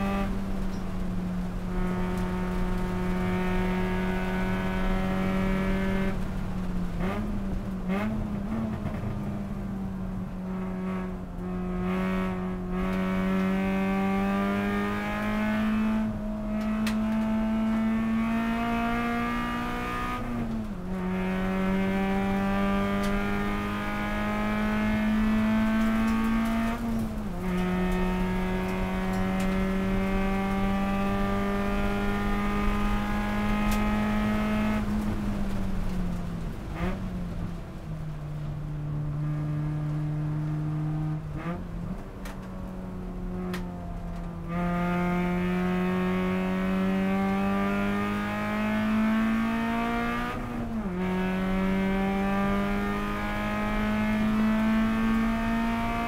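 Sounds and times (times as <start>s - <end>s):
race car engine at speed: 0.0s - 56.0s.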